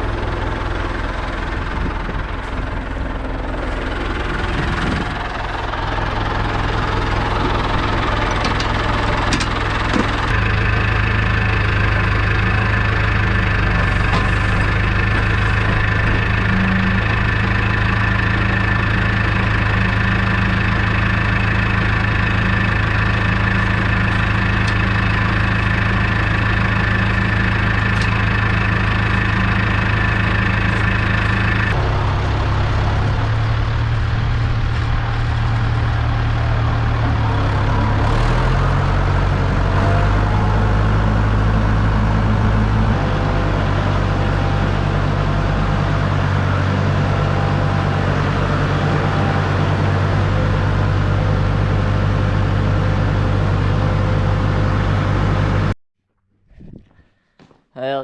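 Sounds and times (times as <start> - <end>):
diesel tractor engine running: 0.0 - 55.8.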